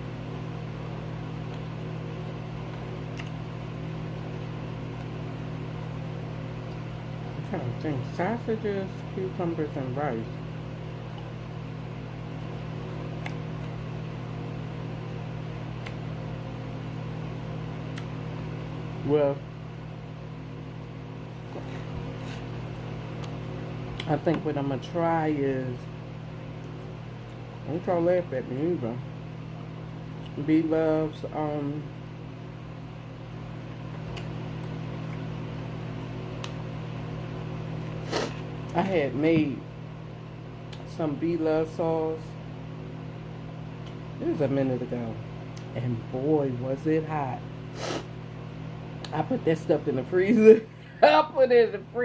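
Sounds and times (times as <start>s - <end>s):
steady low electrical hum: 0.0s - 52.0s.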